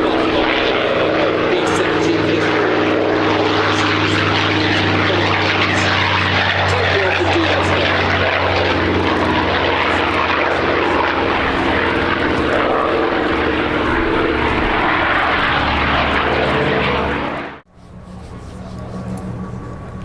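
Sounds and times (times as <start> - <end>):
propeller engine drone: 0.0 - 20.0.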